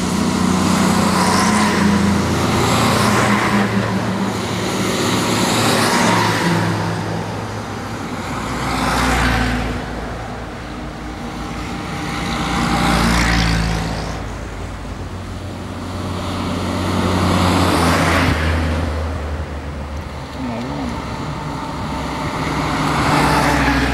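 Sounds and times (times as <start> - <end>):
vehicles driving past: 0.0 - 23.9.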